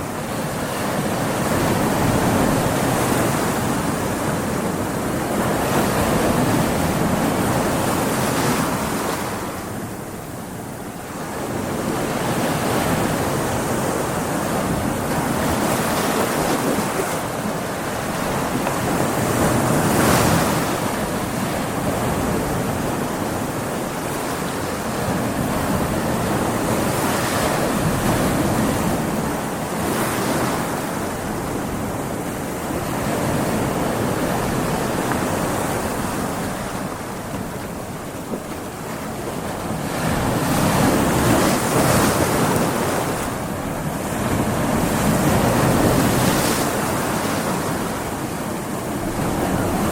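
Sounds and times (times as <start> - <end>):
waves breaking: 0.0 - 49.9
wind: 0.0 - 49.9.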